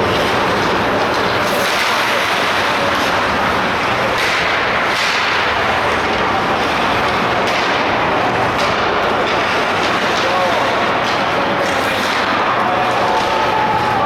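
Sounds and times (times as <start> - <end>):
faint knocks of sticks and puck: 0.1 - 14.0.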